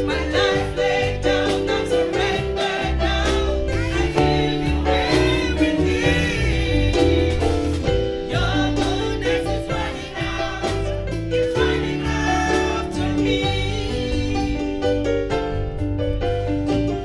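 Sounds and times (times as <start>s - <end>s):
gospel singing with accompaniment: 0.0s - 17.0s
steady bass line: 0.0s - 17.0s.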